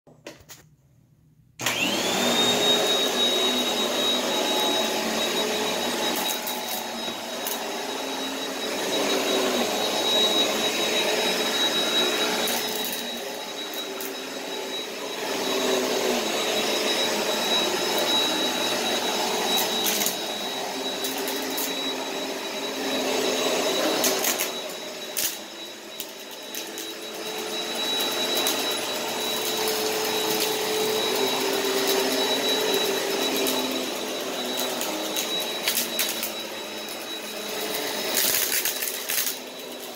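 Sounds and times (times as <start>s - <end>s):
vacuum cleaner motor whine: 1.6s - 39.9s.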